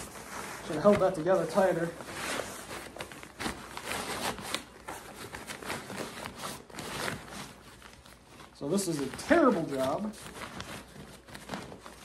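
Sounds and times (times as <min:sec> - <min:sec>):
nylon fabric rustling: 0:00.0 - 0:12.0.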